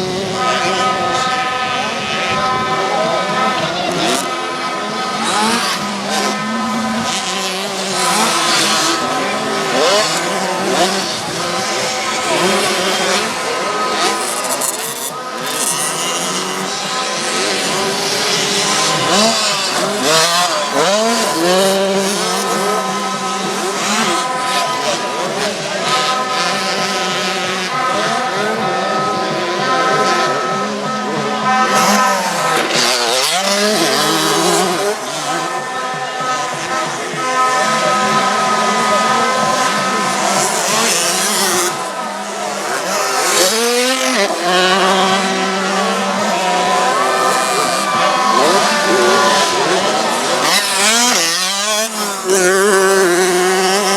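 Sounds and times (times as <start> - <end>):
motocross bikes racing: 0.0 - 53.9.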